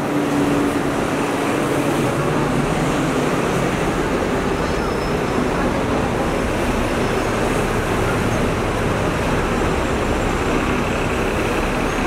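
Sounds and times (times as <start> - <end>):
buses passing: 0.0 - 12.0
street traffic noise: 0.0 - 12.0.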